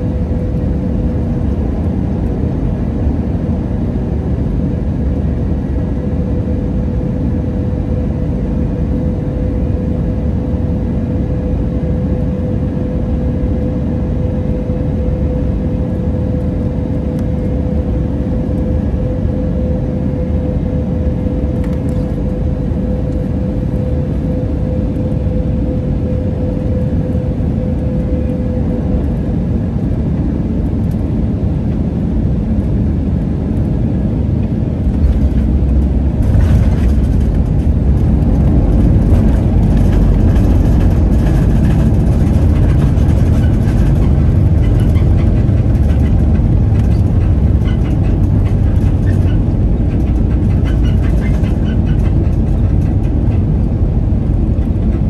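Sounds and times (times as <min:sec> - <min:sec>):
airplane engine and airflow noise: 0:00.0 - 0:55.0
steady humming tone: 0:00.0 - 0:55.0.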